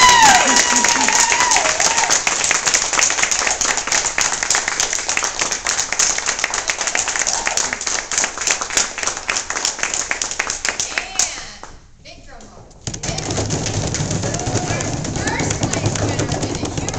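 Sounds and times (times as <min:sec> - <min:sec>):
people applauding: 0:00.0 - 0:11.4, 0:13.0 - 0:16.9.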